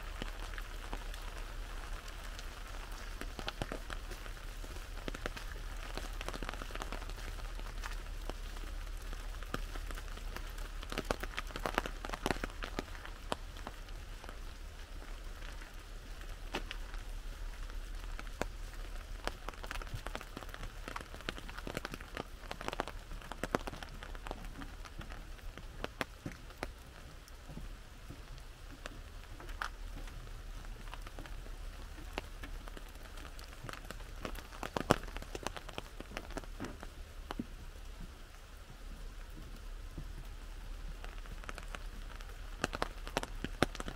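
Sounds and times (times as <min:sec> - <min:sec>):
rain hissing: 0:00.0 - 0:43.9
raindrops tapping an umbrella: 0:00.0 - 0:43.9.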